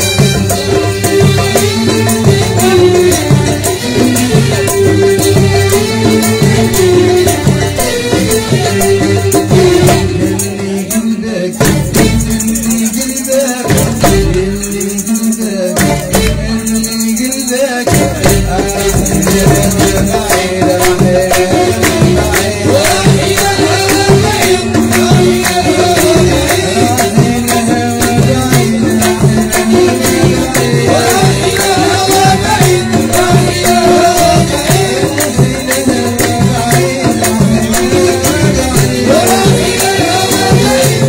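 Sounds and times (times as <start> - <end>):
hand percussion rattling: 0.0 - 41.0
man singing: 0.0 - 41.0.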